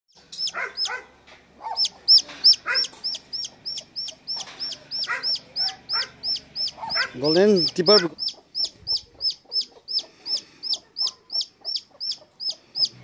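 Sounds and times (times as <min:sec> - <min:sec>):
lower bird calls: 0:00.2 - 0:00.9, 0:01.6 - 0:13.0
high falling bird chirps: 0:00.2 - 0:01.0, 0:01.7 - 0:13.0.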